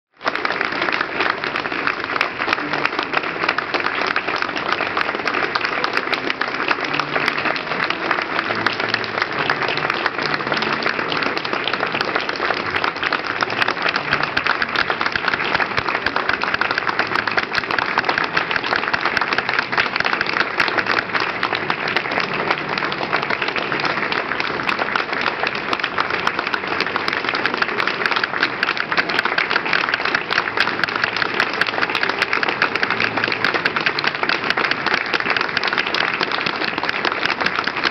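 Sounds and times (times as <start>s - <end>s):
audience applauding: 0.1s - 37.9s.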